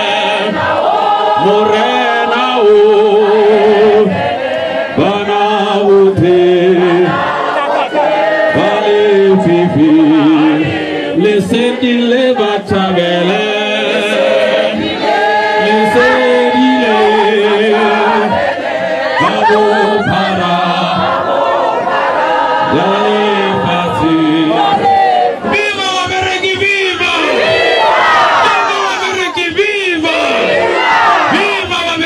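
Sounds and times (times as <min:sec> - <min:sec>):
crowd singing in chorus: 0:00.0 - 0:32.0.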